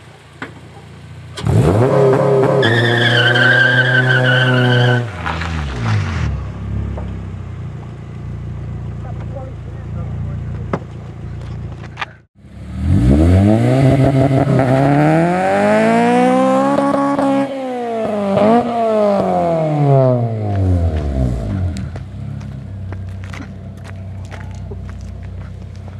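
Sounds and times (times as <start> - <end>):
car engine revving: 0.1 - 25.9.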